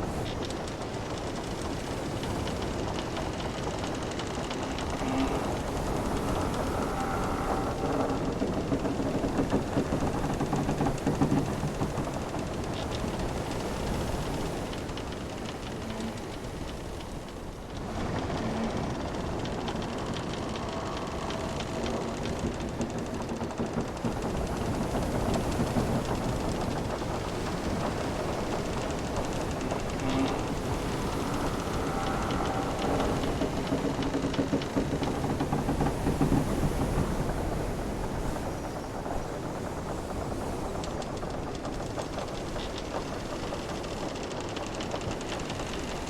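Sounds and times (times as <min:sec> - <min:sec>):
ocean waves washing: 0:00.0 - 0:46.0
wooden ship timbers creaking: 0:00.0 - 0:46.0.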